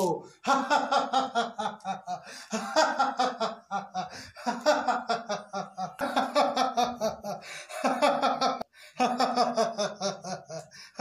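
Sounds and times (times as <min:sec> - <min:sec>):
man laughing loudly: 0:00.4 - 0:10.7.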